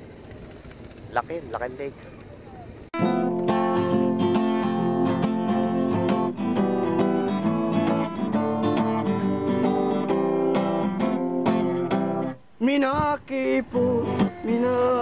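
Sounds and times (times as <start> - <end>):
acoustic guitar strumming chords: 3.0 - 15.0.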